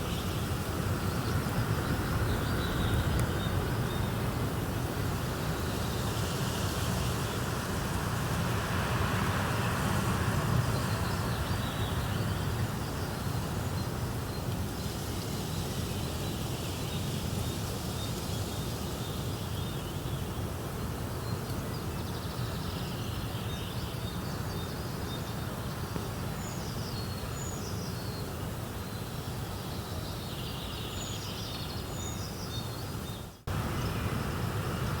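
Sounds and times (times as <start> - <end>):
wind rustling leaves: 0.0 - 35.0.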